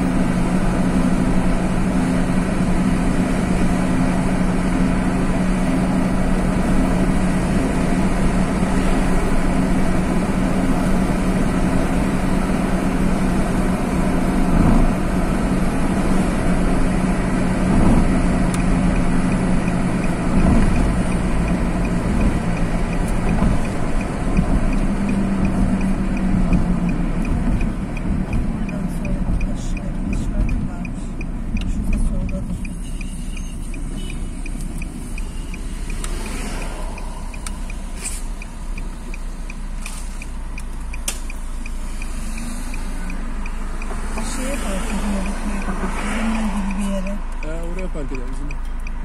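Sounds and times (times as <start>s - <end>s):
car engine hum: 0.0s - 49.0s
tyre and road noise: 0.0s - 49.0s
faint regular ticking: 5.4s - 49.0s.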